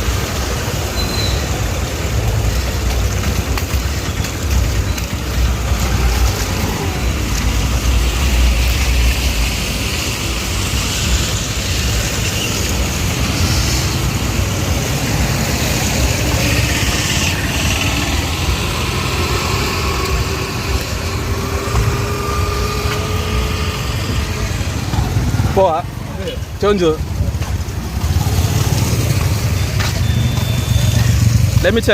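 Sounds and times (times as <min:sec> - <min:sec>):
vehicle engines in traffic: 0:00.0 - 0:31.9.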